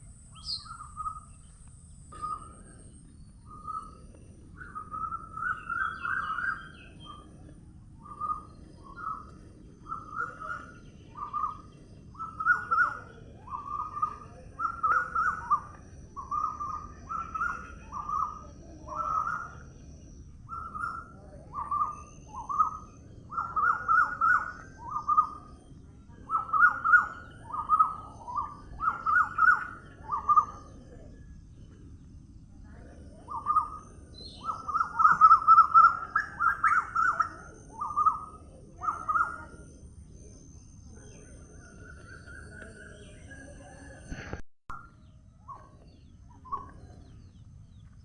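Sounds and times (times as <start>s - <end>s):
bird calling: 0.0s - 31.7s, 32.8s - 47.9s
low background noise: 0.0s - 48.0s.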